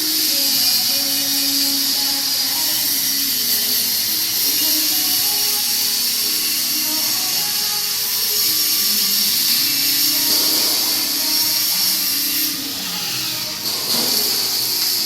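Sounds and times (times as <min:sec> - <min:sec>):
faint music: 0:00.0 - 0:15.0
welding arc hissing: 0:00.0 - 0:15.0.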